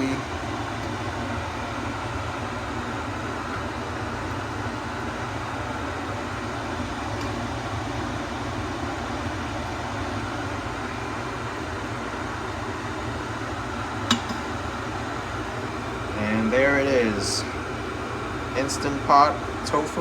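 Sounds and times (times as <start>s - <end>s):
fan hum: 0.0s - 20.0s.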